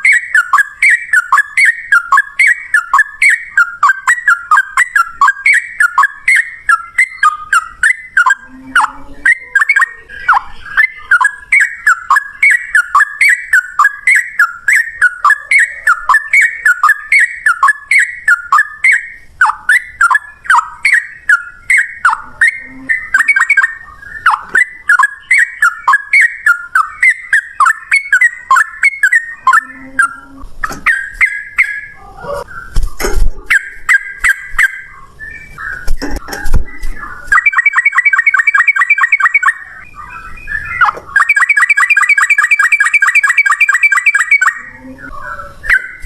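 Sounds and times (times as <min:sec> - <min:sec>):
bird singing bubbling whistles: 0:00.0 - 0:32.8, 0:33.5 - 0:46.0.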